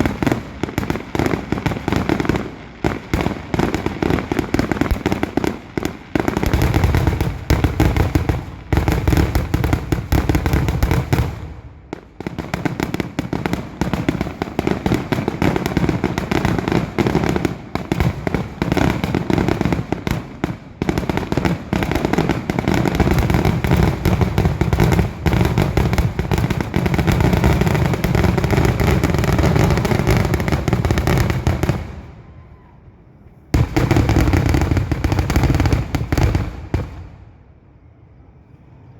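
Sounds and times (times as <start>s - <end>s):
fireworks bursts and booms: 0.0s - 32.4s, 33.5s - 37.5s.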